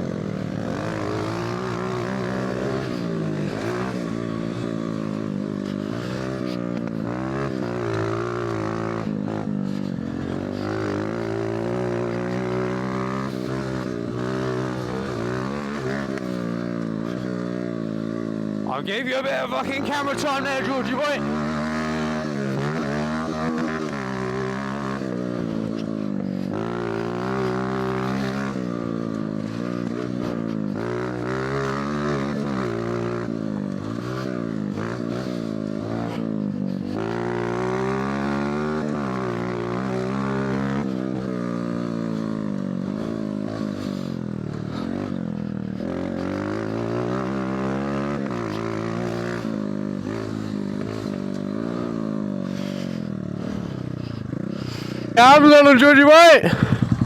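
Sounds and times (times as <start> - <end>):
mini bike engine revving: 0.0 - 57.0.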